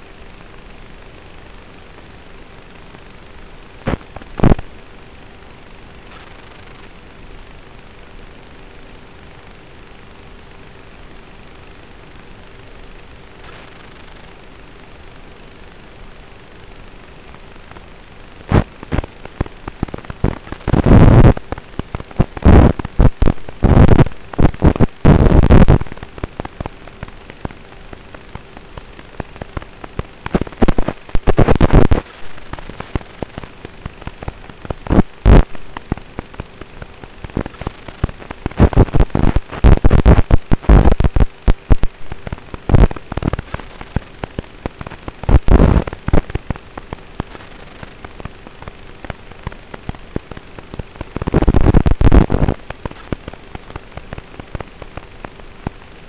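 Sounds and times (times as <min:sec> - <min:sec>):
crackling noise bursts: 0:00.0 - 0:56.0
faint steady hum: 0:00.0 - 0:56.0.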